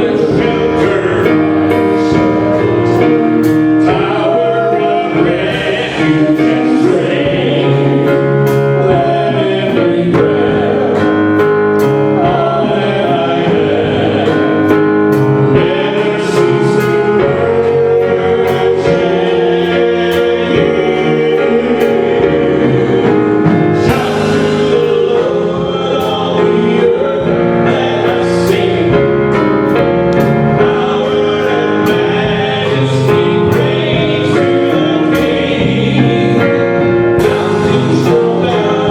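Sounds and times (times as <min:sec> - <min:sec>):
group of voices singing: 0:00.0 - 0:38.9
instrumental accompaniment: 0:00.0 - 0:38.9.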